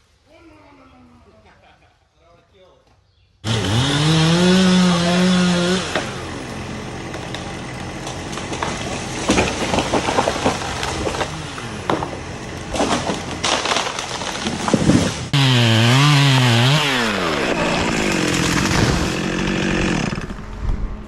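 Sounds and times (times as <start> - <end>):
wood cracking and splintering: 3.4 - 20.4
tree crashing down: 3.4 - 20.5
chainsaw running: 3.4 - 20.6.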